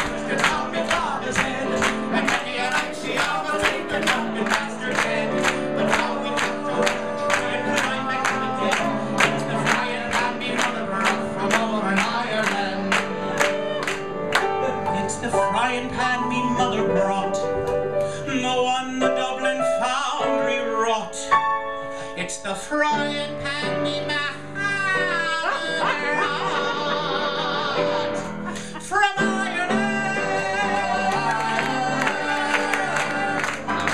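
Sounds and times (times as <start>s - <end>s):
person singing: 0.0s - 21.3s, 22.1s - 33.9s.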